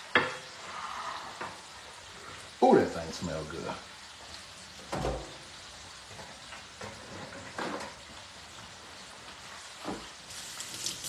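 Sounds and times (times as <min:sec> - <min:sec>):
hot oil bubbling and sizzling: 0:00.0 - 0:11.0.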